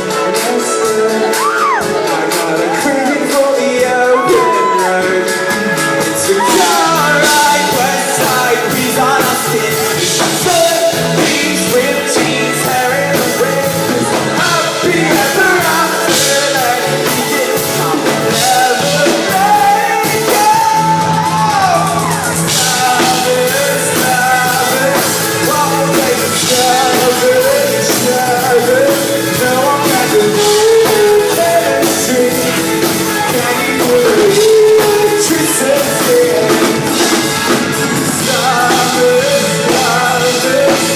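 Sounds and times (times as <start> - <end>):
person singing: 0.0 - 40.9
pop-rock band playing: 0.0 - 40.9.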